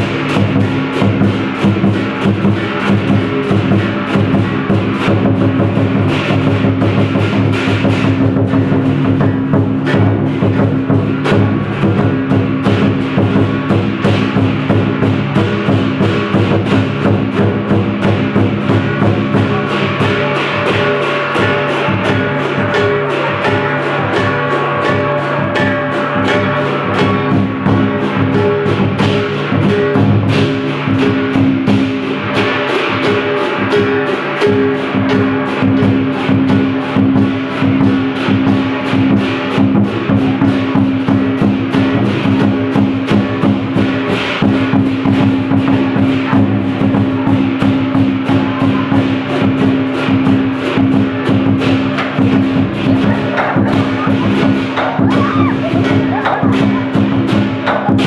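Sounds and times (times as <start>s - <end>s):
cymbals crashing: 0.0s - 58.0s
drum beaten fast: 0.0s - 58.0s
gong: 0.0s - 58.0s.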